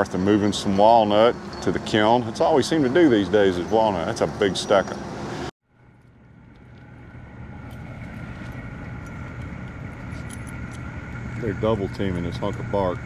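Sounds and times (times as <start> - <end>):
diesel engine running with whine: 0.0 - 13.0.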